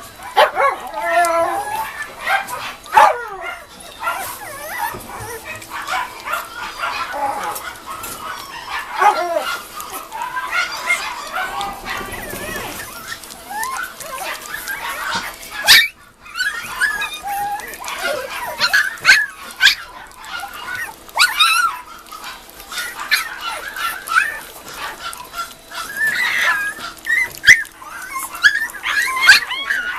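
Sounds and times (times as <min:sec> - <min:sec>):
puppies whimpering and yipping: 0:00.0 - 0:29.9
puppy yelps: 0:00.1 - 0:29.9.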